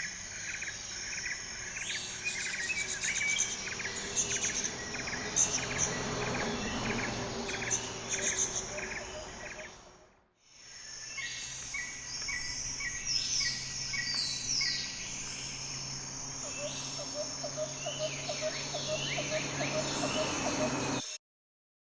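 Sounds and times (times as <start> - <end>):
insects trilling: 0.0 - 9.9, 10.9 - 21.0
small birds chirping: 0.5 - 10.0, 11.0 - 21.2.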